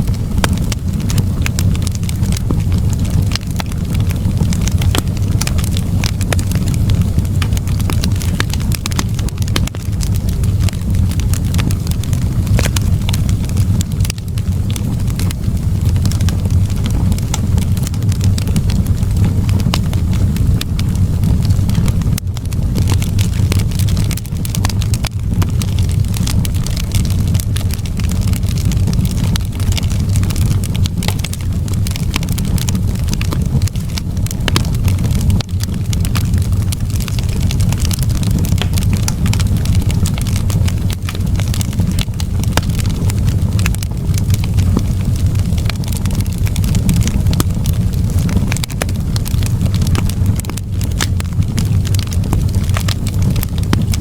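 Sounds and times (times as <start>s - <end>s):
wood fire crackling: 0.0s - 54.0s
sharp pops and snaps: 0.2s - 54.0s.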